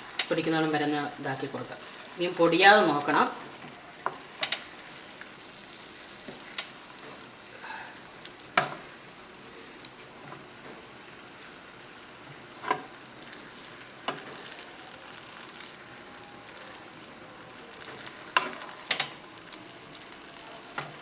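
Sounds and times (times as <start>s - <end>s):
spices sizzling in a pan: 0.0s - 21.0s.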